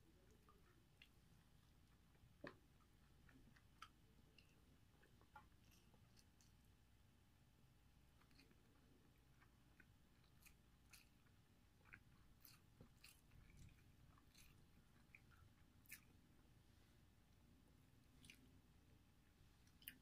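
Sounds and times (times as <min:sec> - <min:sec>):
faint chewing: 0:00.0 - 0:20.0.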